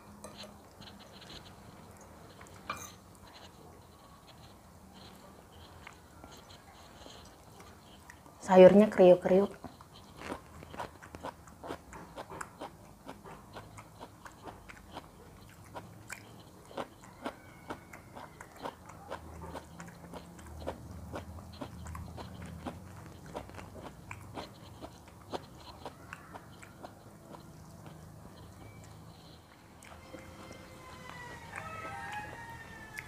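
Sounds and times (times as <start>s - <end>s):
person chewing crunchy food: 0.0s - 8.4s, 9.4s - 33.0s.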